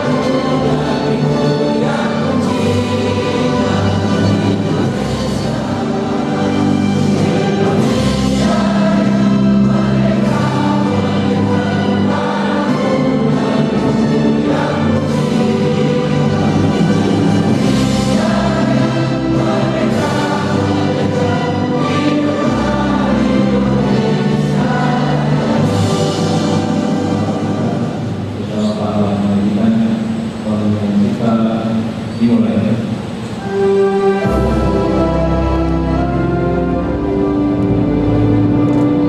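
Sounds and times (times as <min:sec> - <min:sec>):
choir singing with instruments: 0:00.0 - 0:39.0.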